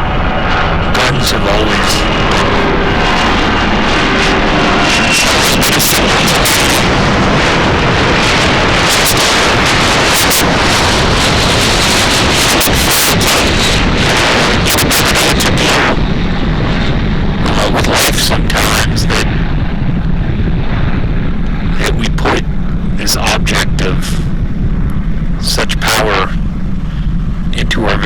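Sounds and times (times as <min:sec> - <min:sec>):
loud dense roaring: 0:00.0 - 0:28.0.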